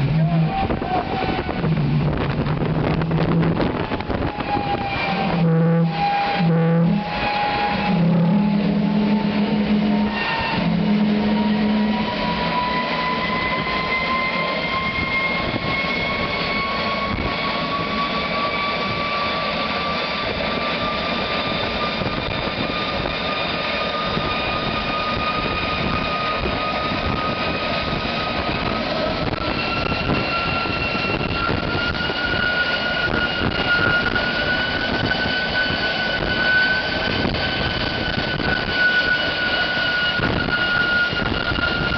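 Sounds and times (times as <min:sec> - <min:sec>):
loud rushing noise: 0:00.0 - 0:41.9
turbojet engine whine: 0:00.0 - 0:41.9.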